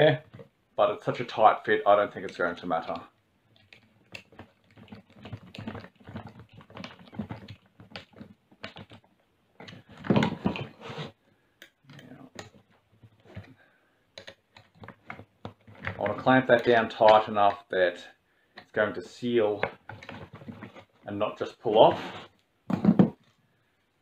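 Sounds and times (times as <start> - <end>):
handling noise: 1.9 - 11.2, 11.8 - 17.7, 18.6 - 23.4.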